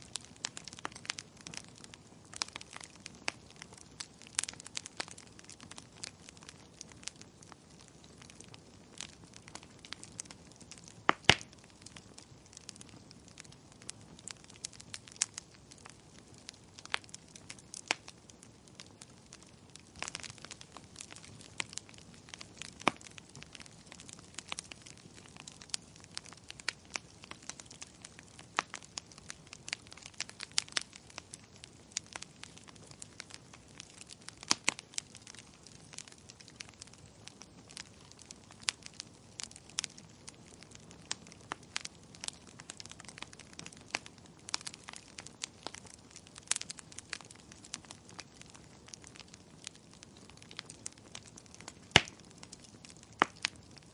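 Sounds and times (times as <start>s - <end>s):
soft hiss of burning: 0.0s - 53.9s
wood fire crackling and popping: 0.0s - 53.9s.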